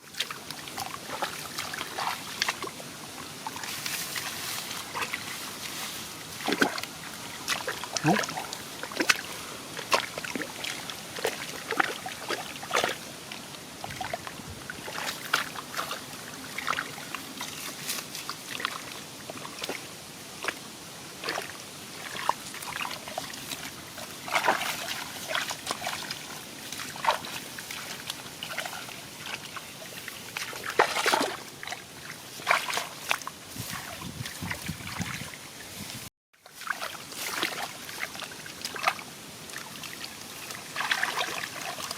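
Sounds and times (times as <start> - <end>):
splashing in shallow water: 0.0 - 41.9.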